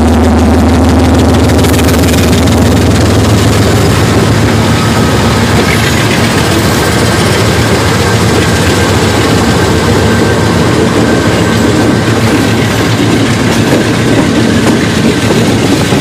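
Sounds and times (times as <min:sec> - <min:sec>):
locomotive engines droning: 0:00.0 - 0:16.0.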